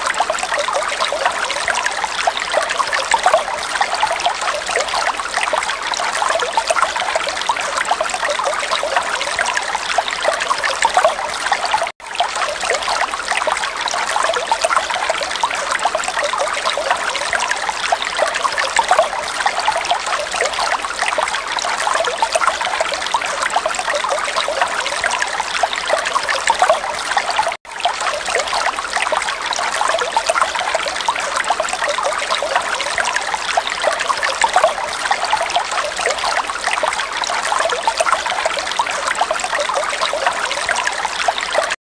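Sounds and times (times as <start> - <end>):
trickling running water: 0.0 - 41.8.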